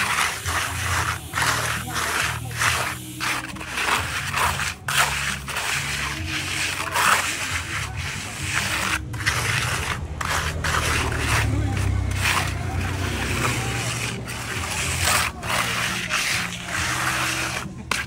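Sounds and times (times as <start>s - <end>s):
trowel scraping wet cement: 0.0s - 18.0s.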